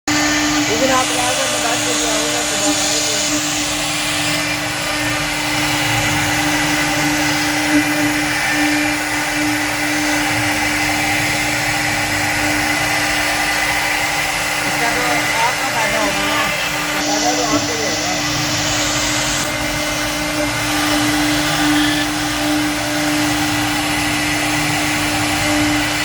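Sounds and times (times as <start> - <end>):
router bit cutting wood hiss: 0.1 - 26.0
router spindle hum: 0.1 - 26.0.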